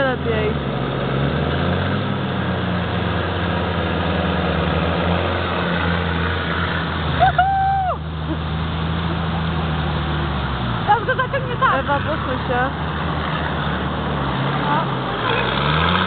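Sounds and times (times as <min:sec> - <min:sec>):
suv engine running: 0:00.0 - 0:16.0.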